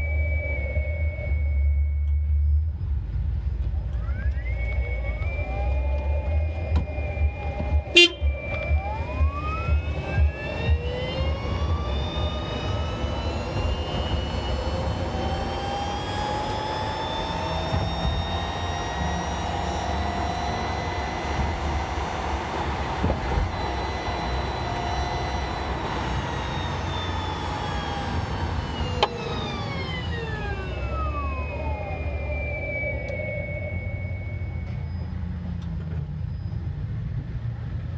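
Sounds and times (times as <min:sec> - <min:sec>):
low road rumble: 0:00.0 - 0:37.9
electric motor whining: 0:04.0 - 0:35.9.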